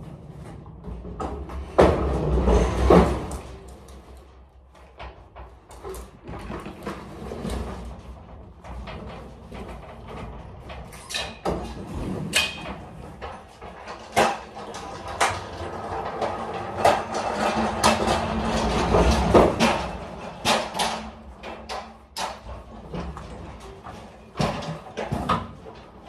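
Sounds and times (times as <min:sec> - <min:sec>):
knocks and clanks: 0:00.0 - 0:04.1, 0:04.7 - 0:26.0
pallet jack rolling rumble: 0:00.0 - 0:26.0.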